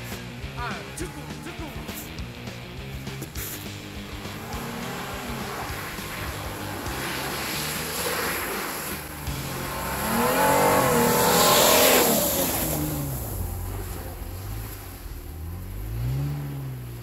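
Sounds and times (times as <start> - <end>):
car engine passing by: 0.0 - 17.0
tyres on snow: 0.0 - 17.0.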